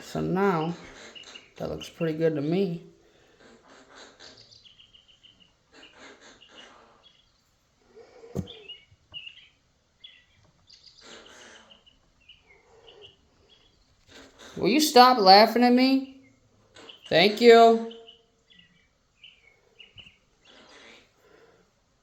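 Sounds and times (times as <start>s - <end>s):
pet birds chirping: 0.0s - 21.5s.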